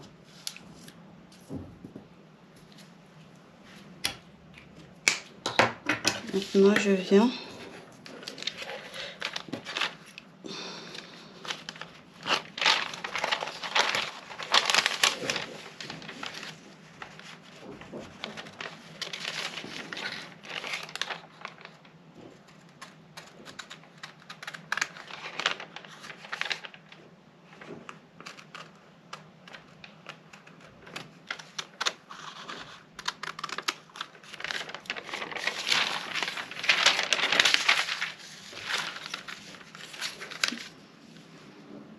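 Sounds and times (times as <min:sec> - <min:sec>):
paper rustling and crinkling: 0:06.1 - 0:41.5.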